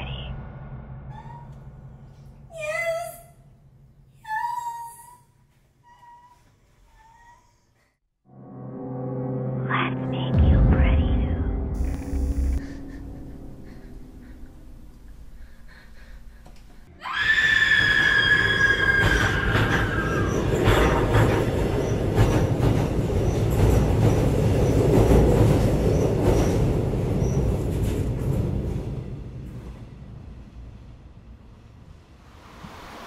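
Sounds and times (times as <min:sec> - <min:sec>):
train rumbling: 0:00.0 - 0:04.2, 0:10.2 - 0:33.0.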